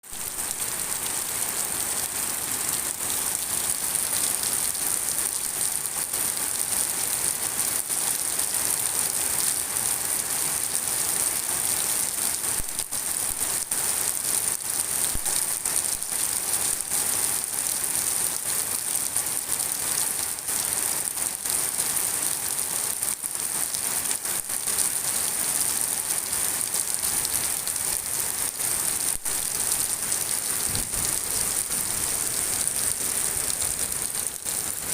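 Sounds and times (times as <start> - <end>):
rain pattering: 0.0 - 34.9.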